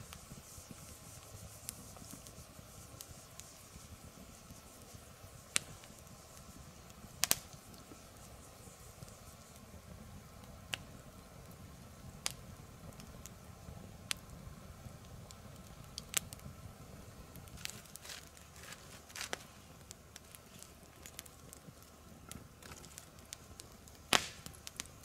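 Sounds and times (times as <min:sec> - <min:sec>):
log fire crackling and popping: 0:00.0 - 0:25.0.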